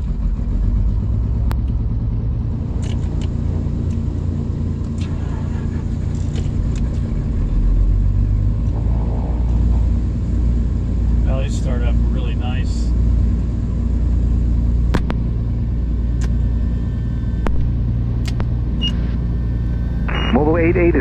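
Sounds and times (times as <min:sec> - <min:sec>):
piston aircraft engines droning: 0:00.0 - 0:21.0.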